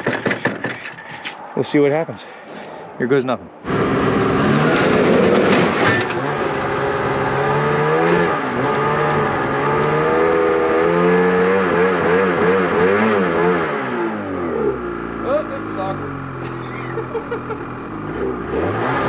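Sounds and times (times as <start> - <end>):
snowmobile engine revving: 3.6 - 19.0.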